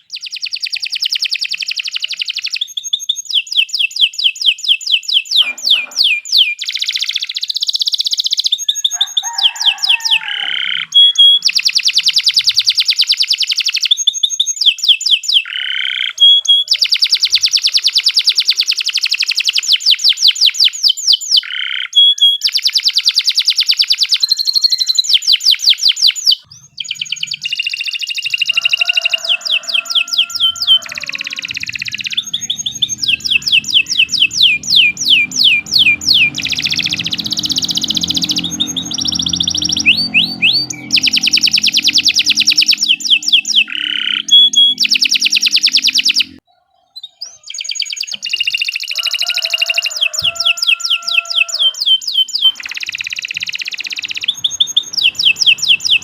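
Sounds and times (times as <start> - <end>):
canary singing fast trills: 0.0 - 56.0.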